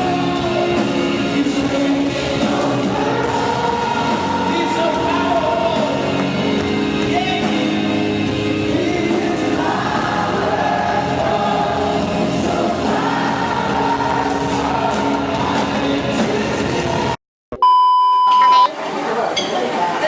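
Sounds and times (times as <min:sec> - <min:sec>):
band playing worship music: 0:00.0 - 0:17.2
many voices singing together: 0:00.0 - 0:17.2.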